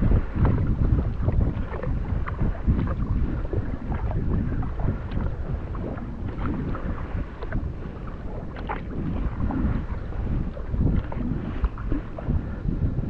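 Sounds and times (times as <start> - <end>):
paddle strokes splashing water: 0.0 - 13.0
wind buffeting microphone: 0.0 - 13.0.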